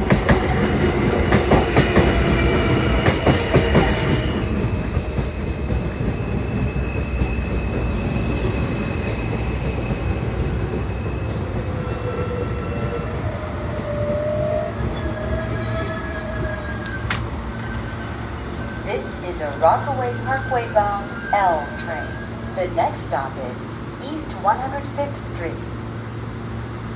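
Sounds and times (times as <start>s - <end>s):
train wheels rumbling and squealing: 0.0s - 26.9s.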